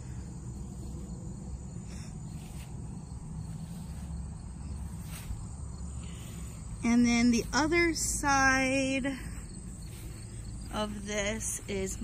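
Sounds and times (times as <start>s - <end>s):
crickets trilling: 0.0s - 12.0s
faint rustles: 0.1s - 7.8s, 8.7s - 12.0s.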